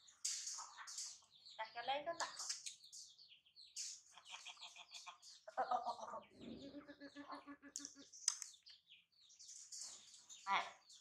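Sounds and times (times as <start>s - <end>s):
chickens clucking: 0.0s - 10.7s.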